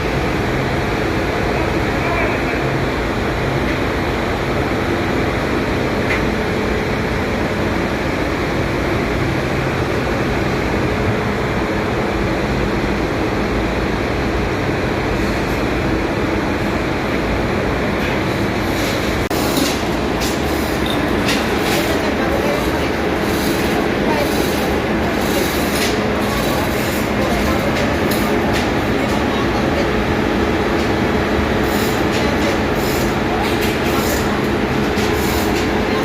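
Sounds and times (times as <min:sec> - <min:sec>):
engine room machinery noise: 0:00.0 - 0:36.0.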